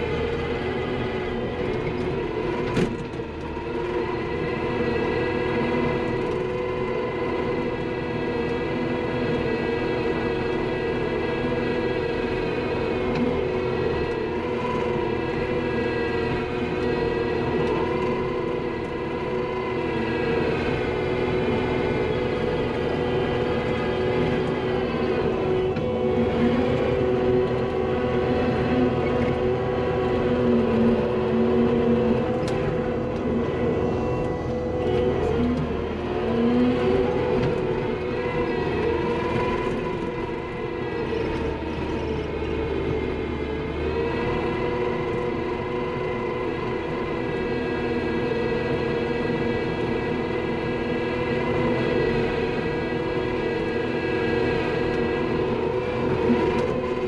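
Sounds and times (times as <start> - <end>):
skid steer engine whining: 0.0 - 57.0.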